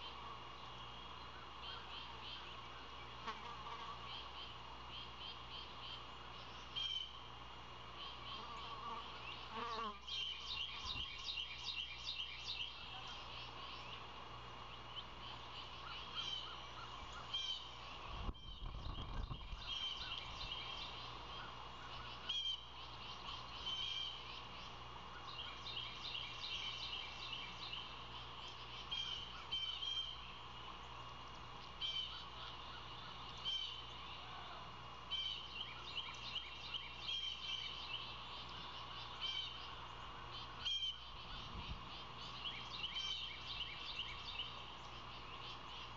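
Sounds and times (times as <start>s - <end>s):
songbirds chirping: 0.0s - 45.9s
steady low hum: 0.0s - 45.9s.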